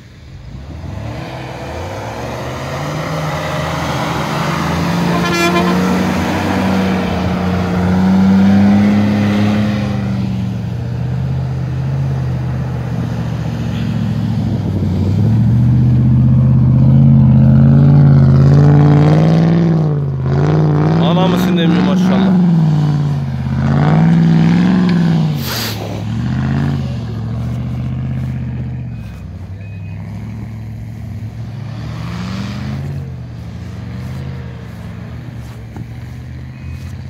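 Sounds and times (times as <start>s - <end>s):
off-road engine pulling past: 0.3s - 37.0s
off-road engine revving close by: 0.3s - 37.0s.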